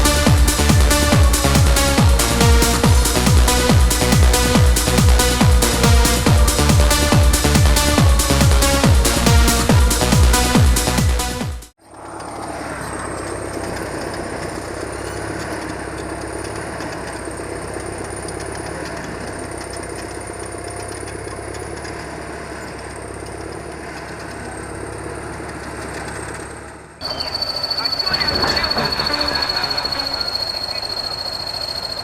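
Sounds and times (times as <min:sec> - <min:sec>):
large engine running with whine: 0:00.0 - 0:32.0.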